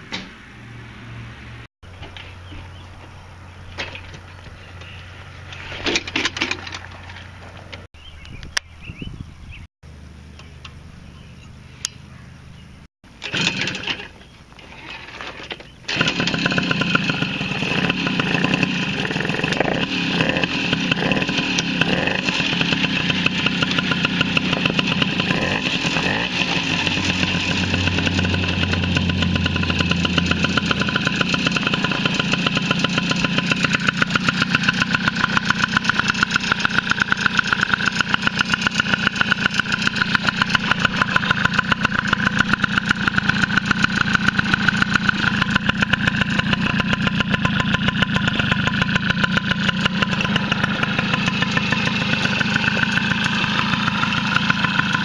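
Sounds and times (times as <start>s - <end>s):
moped engine starting and idling: 1.9s - 7.9s, 12.0s - 55.0s.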